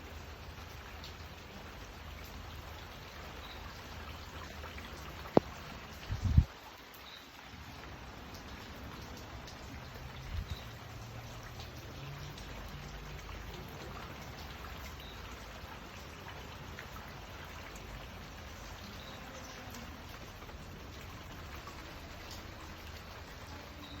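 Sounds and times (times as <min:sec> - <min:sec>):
raindrops ticking on surfaces: 0:00.0 - 0:24.0
steady rainfall hiss: 0:00.0 - 0:24.0.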